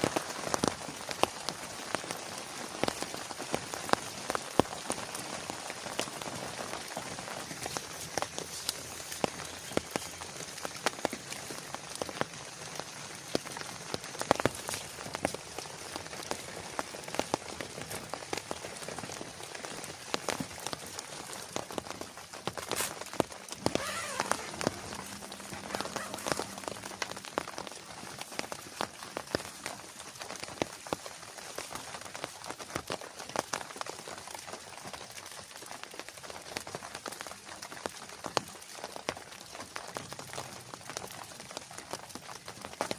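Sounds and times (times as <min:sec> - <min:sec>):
heavy rain: 0:00.0 - 0:42.9
raindrops ticking on a surface: 0:00.0 - 0:42.9.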